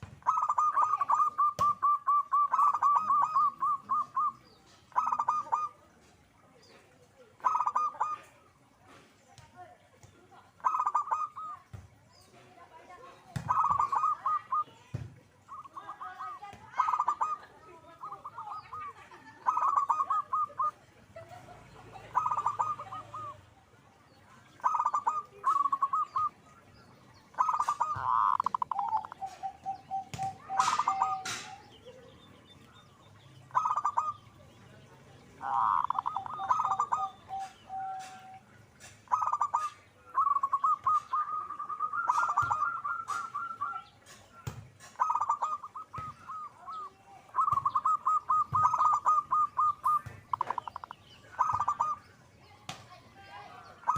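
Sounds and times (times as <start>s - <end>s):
dove cooing: 0.0s - 5.8s, 7.4s - 9.0s, 10.5s - 11.7s, 13.3s - 23.6s, 24.4s - 26.6s, 27.3s - 52.1s.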